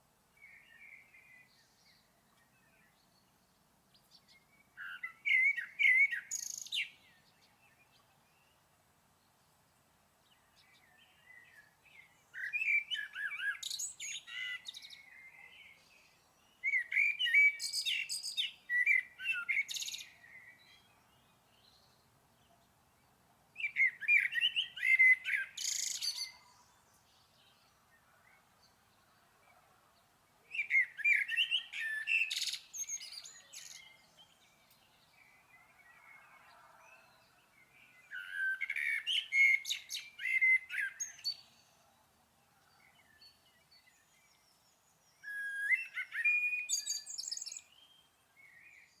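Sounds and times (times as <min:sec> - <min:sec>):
songbird chirping: 0:00.0 - 0:49.0.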